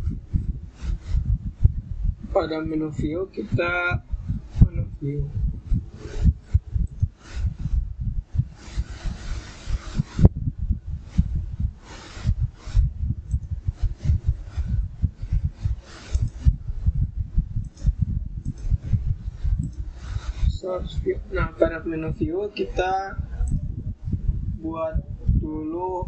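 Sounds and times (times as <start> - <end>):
low thuds and rubbing: 0.0 - 25.6.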